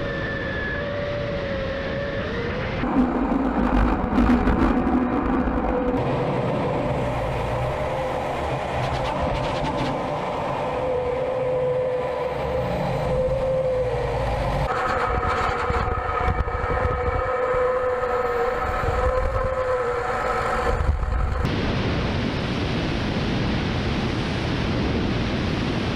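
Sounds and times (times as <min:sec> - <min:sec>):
higher engine whine: 0:00.0 - 0:25.9
jet engines whining: 0:00.0 - 0:25.9.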